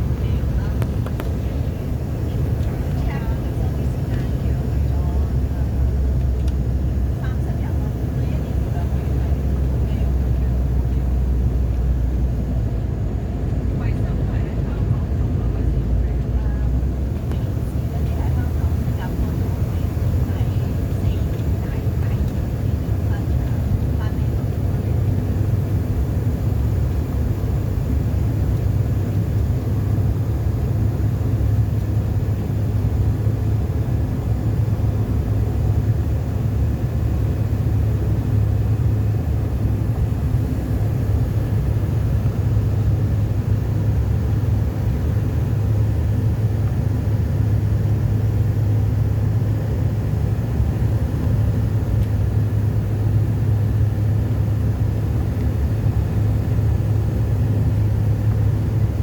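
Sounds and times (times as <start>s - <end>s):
jet cabin engine drone: 0.0s - 59.0s.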